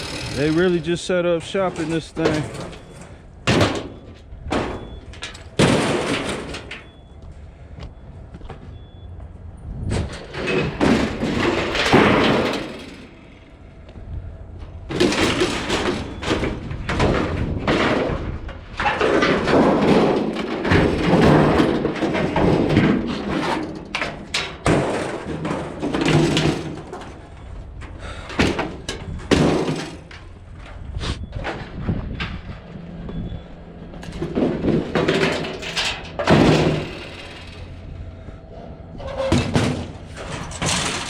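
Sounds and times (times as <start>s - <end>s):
scraping and rattling metal: 0.0s - 7.0s, 10.0s - 13.4s, 14.6s - 32.7s, 34.0s - 41.0s.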